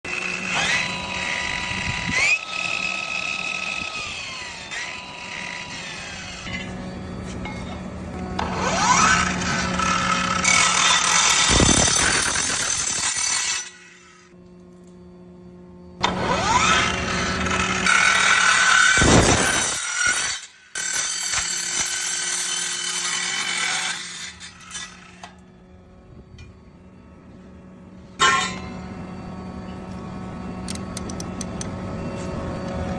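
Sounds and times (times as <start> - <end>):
miter saw whining and cutting: 0.1 - 32.9.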